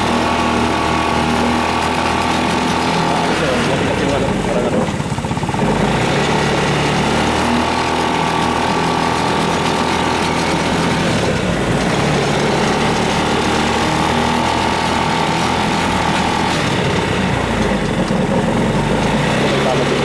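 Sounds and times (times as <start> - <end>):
buggy engine with whine: 0.0 - 20.0.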